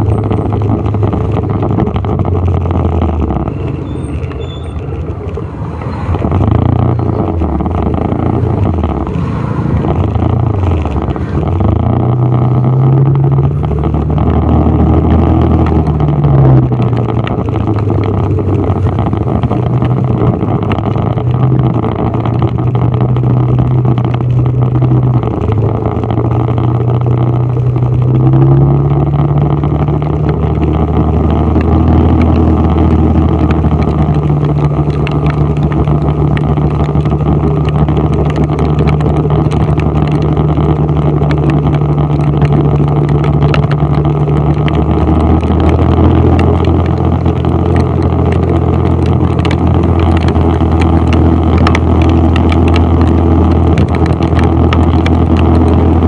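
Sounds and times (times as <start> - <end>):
tyre noise on wet road: 0.0 - 56.0
vehicle engine running while driving: 0.0 - 56.0.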